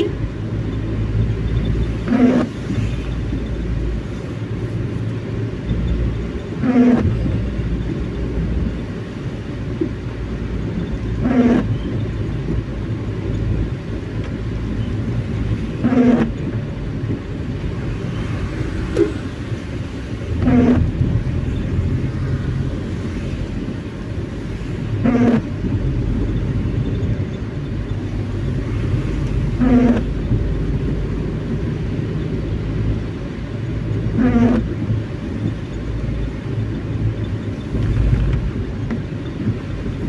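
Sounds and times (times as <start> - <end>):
car road rumble: 0.0 - 40.0
windscreen wipers rubbing: 0.0 - 40.0.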